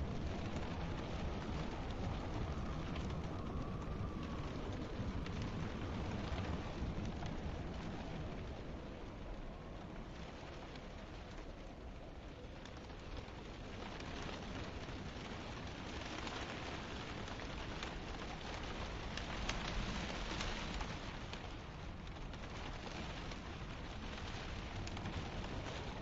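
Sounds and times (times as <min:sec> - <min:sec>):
wind rumble: 0:00.0 - 0:26.0.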